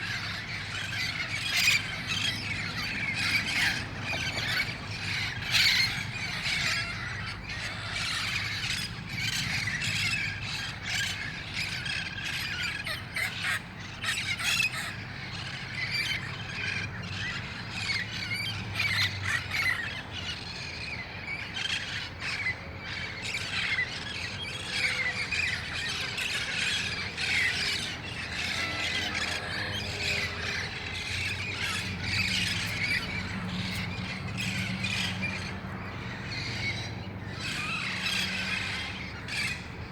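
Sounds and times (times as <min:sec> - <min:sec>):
parrots squawking and screeching: 0:00.0 - 0:39.9.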